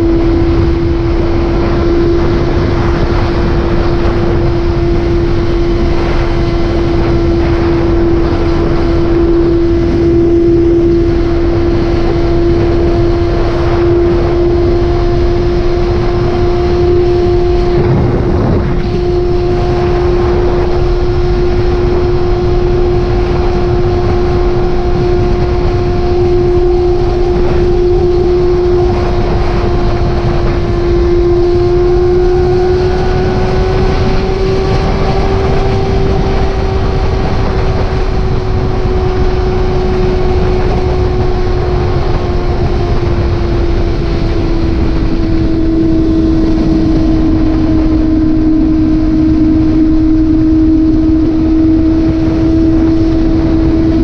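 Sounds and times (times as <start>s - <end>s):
heavy wind rush: 0.0s - 54.0s
motorcycle engine cruising: 0.0s - 54.0s.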